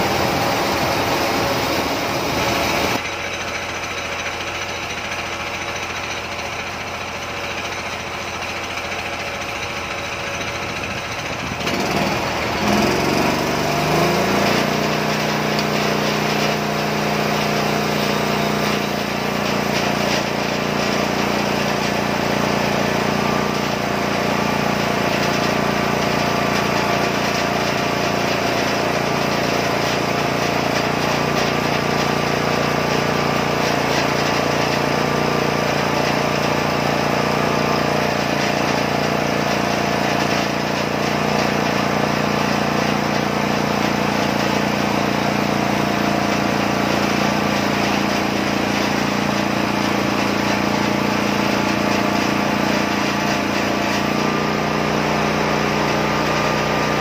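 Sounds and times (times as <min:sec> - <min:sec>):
band sawmill cutting log: 0:00.0 - 0:57.0.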